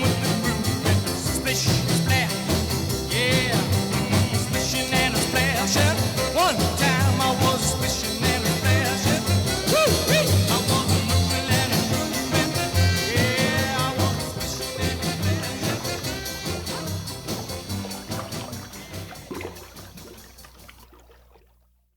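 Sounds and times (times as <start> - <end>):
rock and roll music: 0.0 - 20.7.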